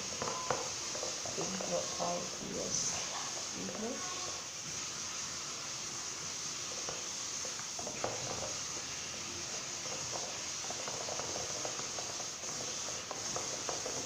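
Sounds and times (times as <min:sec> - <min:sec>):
slime stirred in a bowl: 0:00.0 - 0:14.0
steady hiss: 0:00.0 - 0:14.0.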